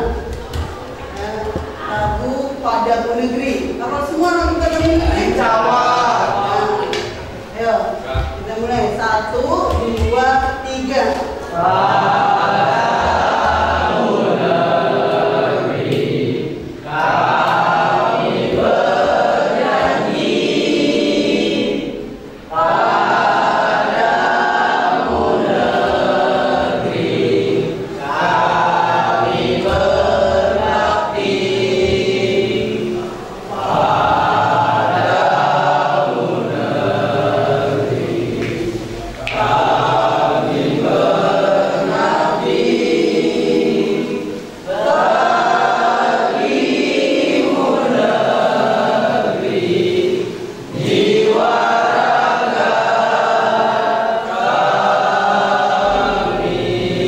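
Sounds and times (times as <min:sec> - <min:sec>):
class singing in unison: 0:00.0 - 0:57.0.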